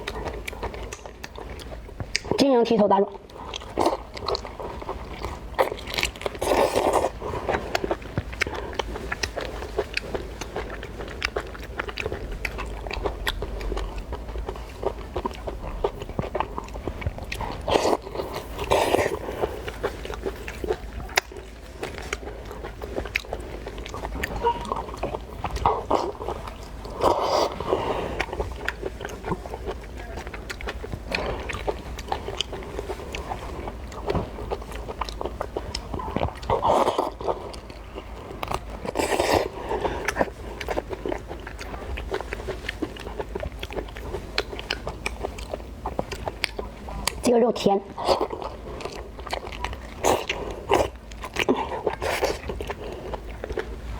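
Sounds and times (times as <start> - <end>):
chewing with wet clicks: 0.0 - 53.9.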